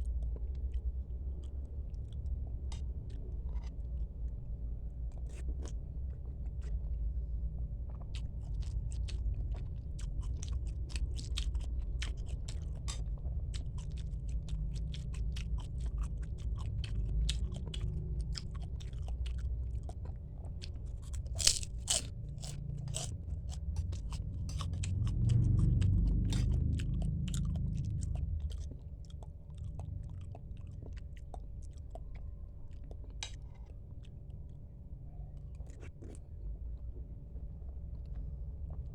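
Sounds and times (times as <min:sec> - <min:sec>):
chewing with wet mouth clicks: 0:00.0 - 0:38.9.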